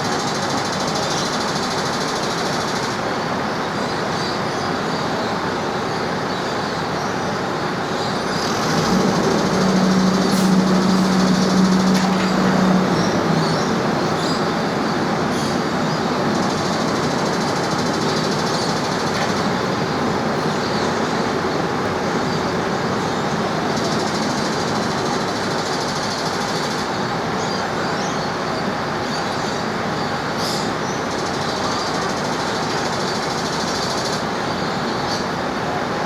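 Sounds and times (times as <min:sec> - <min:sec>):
train mechanical rumble: 0:04.8 - 0:36.0.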